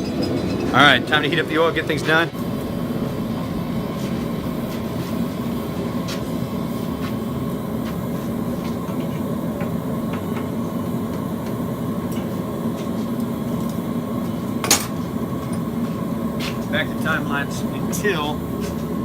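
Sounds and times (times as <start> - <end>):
forge burner roaring: 0.0 - 19.0.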